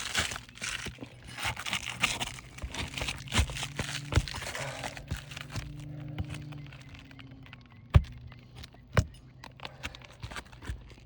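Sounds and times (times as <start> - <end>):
shingles crackling and tearing: 0.0 - 11.0.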